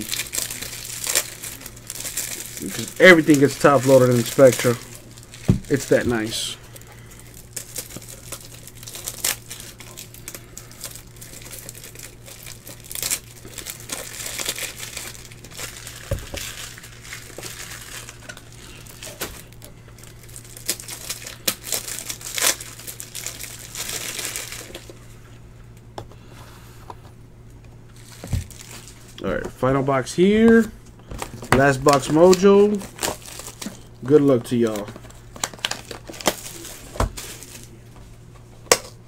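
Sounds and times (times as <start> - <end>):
plastic wrapping crinkling and tearing: 0.0 - 25.0, 27.9 - 29.3, 30.4 - 37.9, 38.6 - 39.0
steady low hum: 0.0 - 39.0.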